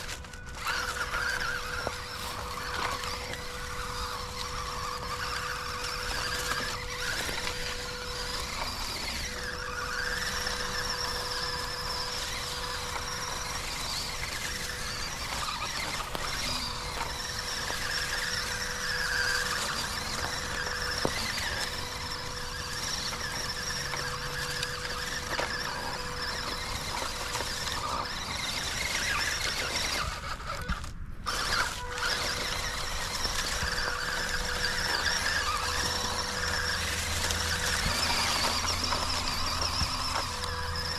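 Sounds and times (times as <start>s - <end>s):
small electric motor whining: 0.0s - 40.9s.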